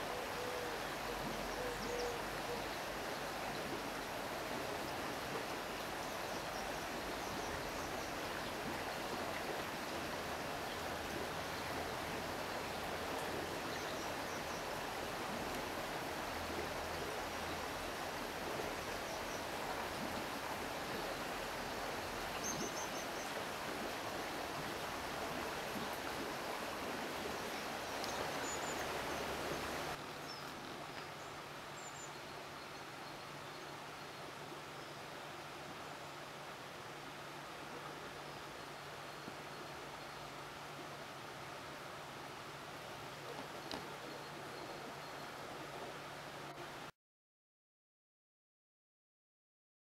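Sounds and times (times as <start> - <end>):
flowing river water: 0.0 - 46.9.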